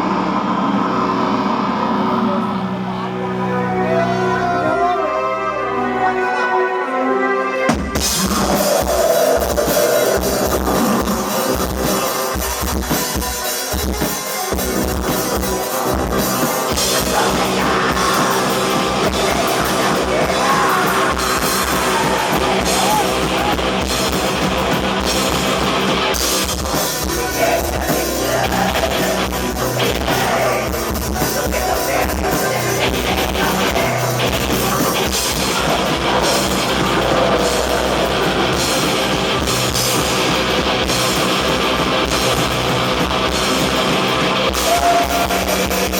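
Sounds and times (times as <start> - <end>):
live black metal band: 0.0 - 45.9.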